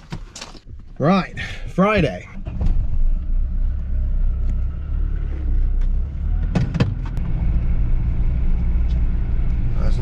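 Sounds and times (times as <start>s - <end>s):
vehicle engine rumbling: 0.6s - 10.0s.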